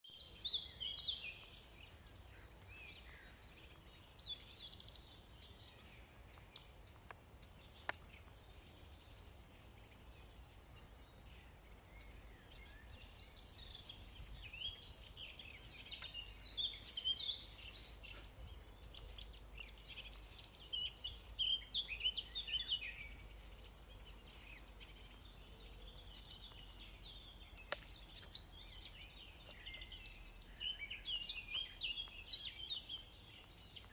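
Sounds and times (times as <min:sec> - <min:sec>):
songbirds chirping and singing: 0:00.0 - 0:33.9.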